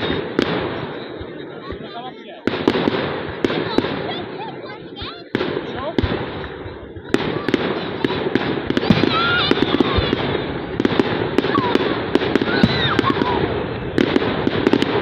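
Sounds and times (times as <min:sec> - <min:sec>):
distant fireworks bangs: 0:00.0 - 0:15.0
fireworks cracking and popping: 0:00.0 - 0:15.0.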